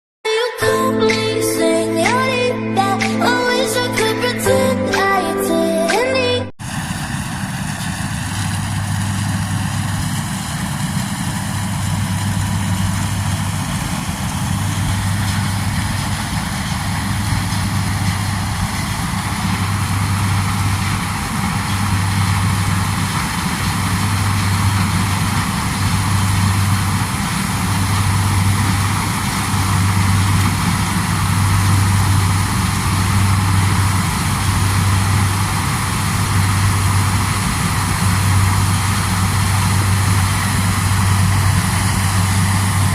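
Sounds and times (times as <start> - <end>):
heavy engine running: 0.6 - 42.9
low pulsing drone: 8.1 - 42.9.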